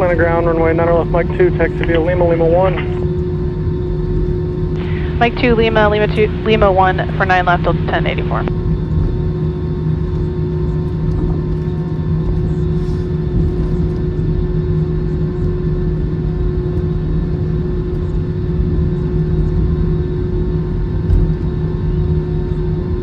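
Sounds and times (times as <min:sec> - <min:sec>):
constant hum: 0:00.0 - 0:23.0
jet engines idling rumble: 0:00.0 - 0:23.0.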